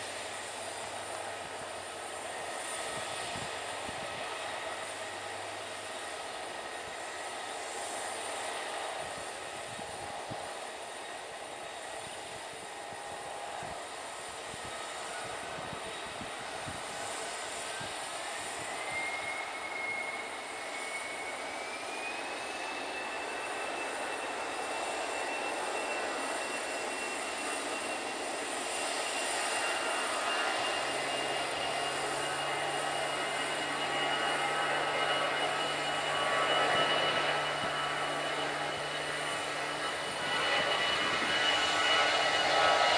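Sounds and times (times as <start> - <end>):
jet airliner engines whining: 0.0 - 42.9.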